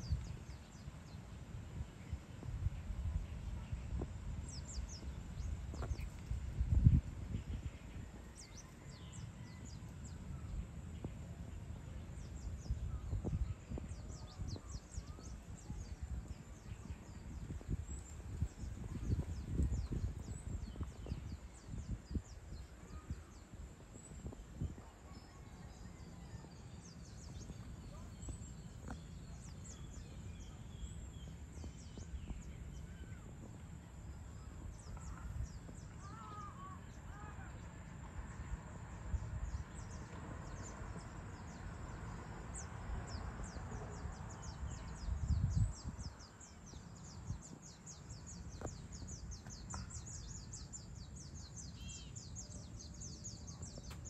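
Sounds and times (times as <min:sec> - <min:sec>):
small birds chirping: 0:00.0 - 0:54.0
steady low rumble: 0:00.0 - 0:54.0.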